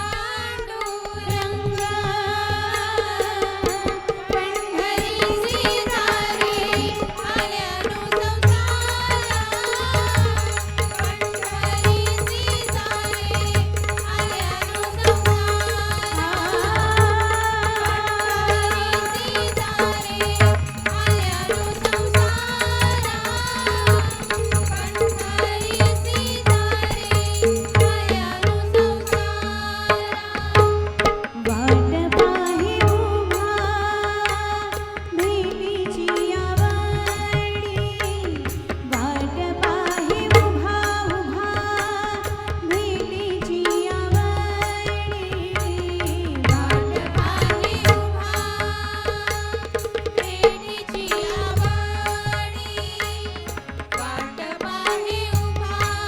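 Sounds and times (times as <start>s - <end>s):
woman singing: 0.0s - 56.0s
hand drums playing rhythm: 8.2s - 33.8s, 35.2s - 56.0s.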